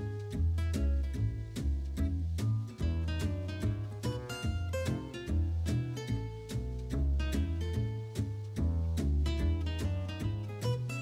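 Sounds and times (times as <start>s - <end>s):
acoustic guitar with bass: 0.0s - 11.0s.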